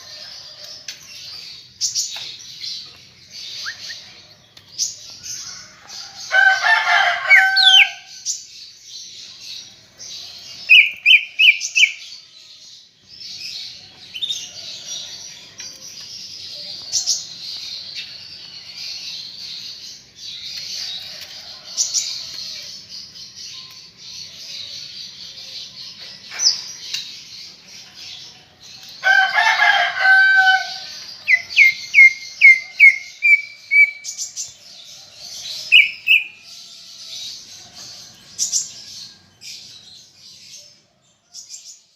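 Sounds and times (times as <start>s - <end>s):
bird twittering song: 0.0s - 41.9s.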